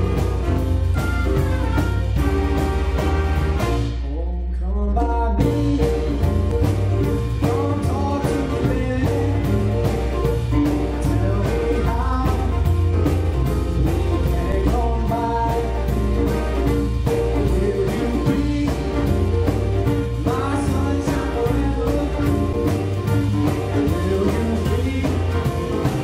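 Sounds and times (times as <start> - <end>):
drum kit beat: 0.0 - 4.1, 5.4 - 26.0
big band playing: 0.0 - 26.0.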